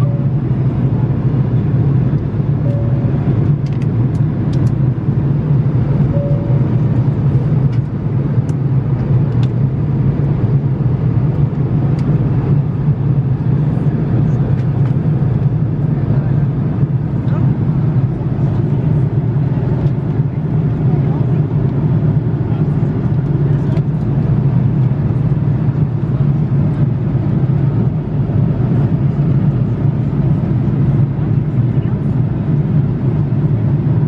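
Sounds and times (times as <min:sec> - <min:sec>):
airliner engine and airflow rumble: 0:00.0 - 0:34.0.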